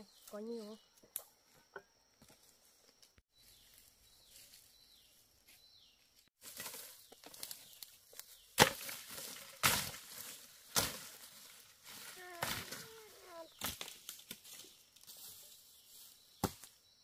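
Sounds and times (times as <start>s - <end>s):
rustling vegetation: 2.2s - 17.0s.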